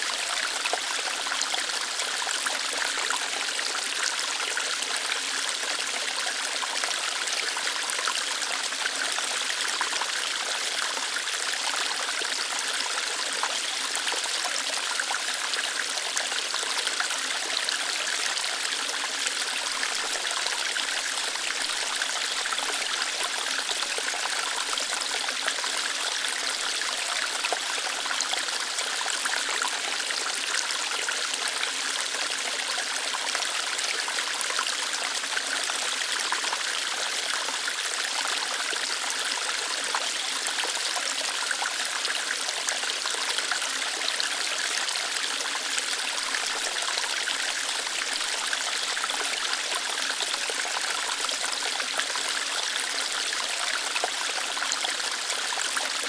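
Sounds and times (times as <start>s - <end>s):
small waterfall over rocks: 0.0s - 56.0s.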